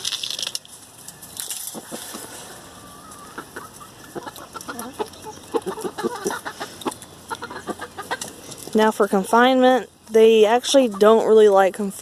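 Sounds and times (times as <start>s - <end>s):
chickens clucking: 1.0s - 9.6s, 10.2s - 11.7s.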